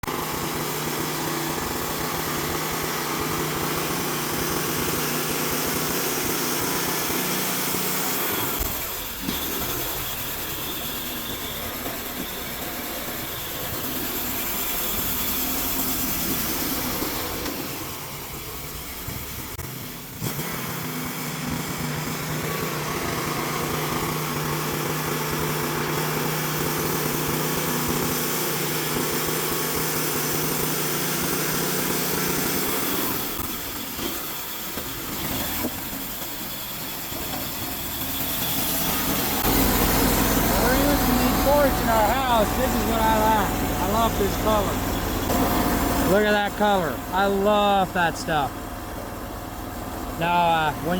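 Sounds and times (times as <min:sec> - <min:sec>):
band sawmill cutting log: 0:00.0 - 0:50.9.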